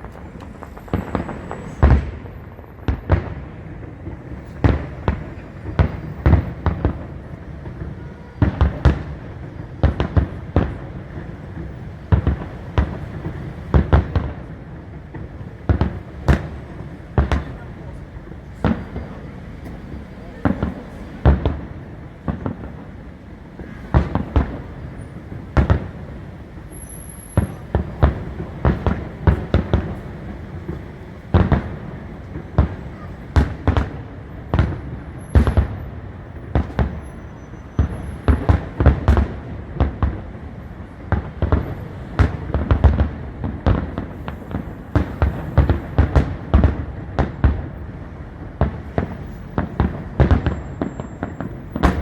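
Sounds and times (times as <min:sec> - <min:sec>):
fireworks bursts and bangs: 0:00.0 - 0:52.0
fireworks crackling: 0:00.0 - 0:52.0.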